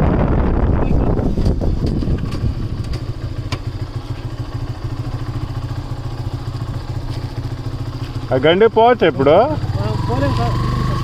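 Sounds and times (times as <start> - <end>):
motorcycle engine idling: 0.8 - 11.0.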